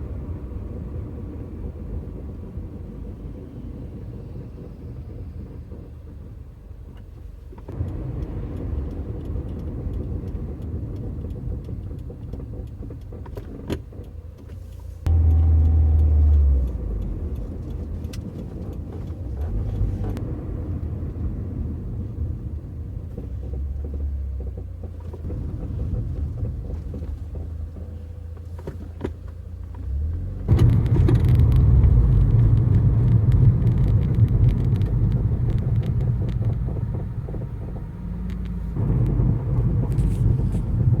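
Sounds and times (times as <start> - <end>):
car low rumbling noise: 0.0 - 41.0.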